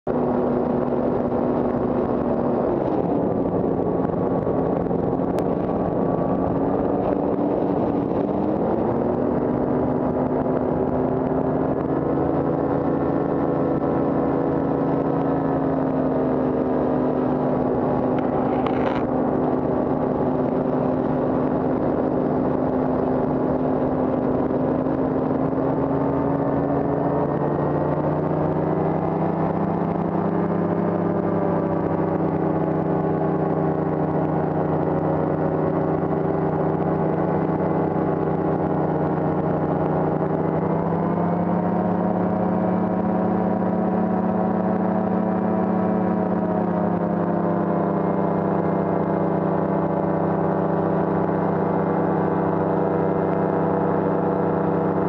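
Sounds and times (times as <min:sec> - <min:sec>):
paramotor engine and propeller: 0:00.0 - 0:55.0.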